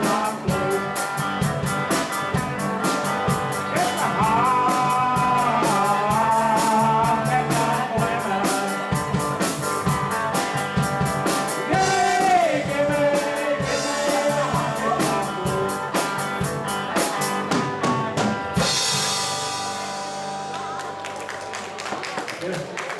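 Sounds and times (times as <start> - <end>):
drum kit beat: 0.0 - 20.9
rock band playing: 0.0 - 22.5.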